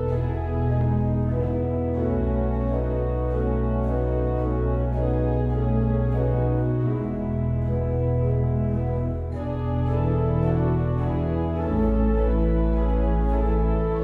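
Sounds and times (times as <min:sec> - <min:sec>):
pipe organ playing chords: 0:00.0 - 0:14.0.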